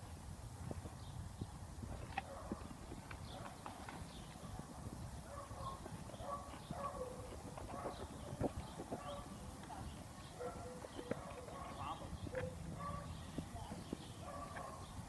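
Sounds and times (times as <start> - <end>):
footsteps on stone and gravel: 0.6 - 15.0.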